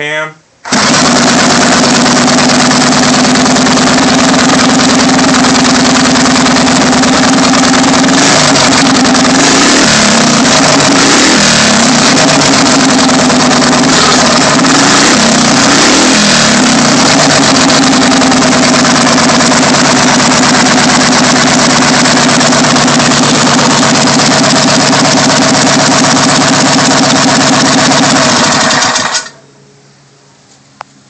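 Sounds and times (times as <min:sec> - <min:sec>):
small engine running loud: 0:00.7 - 0:29.4.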